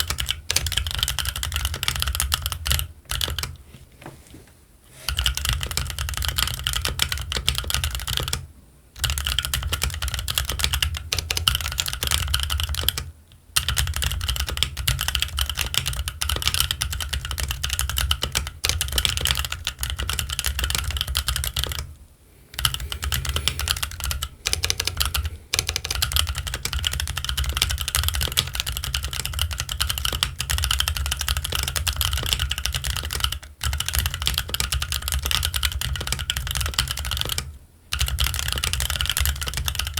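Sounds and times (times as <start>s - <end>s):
fast mechanical keyboard typing: 0.0s - 3.6s, 5.1s - 21.9s, 22.5s - 39.9s.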